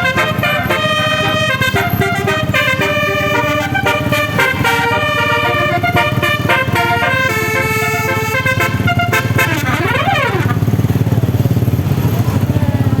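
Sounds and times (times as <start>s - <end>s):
musical vehicle horn melody: 0.0s - 11.0s
engine throbbing: 0.0s - 13.0s.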